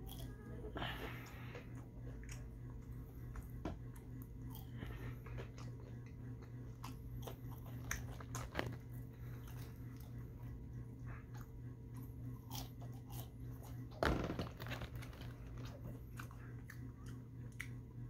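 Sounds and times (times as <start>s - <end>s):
mouth chewing fries: 0.0s - 18.0s
steady low hum: 0.0s - 18.0s.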